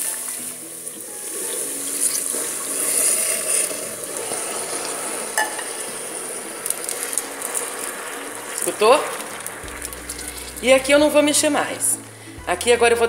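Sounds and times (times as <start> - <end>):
caramel sizzling and spitting: 0.0 - 12.4.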